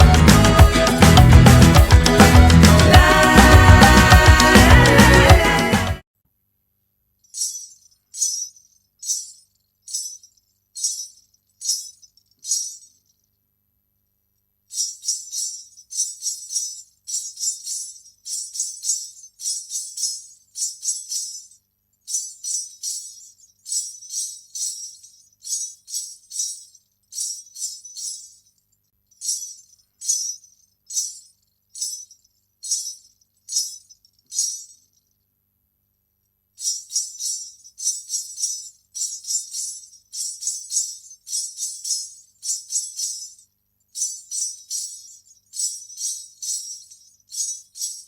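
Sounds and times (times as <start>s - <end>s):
ankle bells jingling: 0.0s - 6.0s, 7.2s - 13.4s, 14.7s - 35.2s, 36.6s - 48.0s.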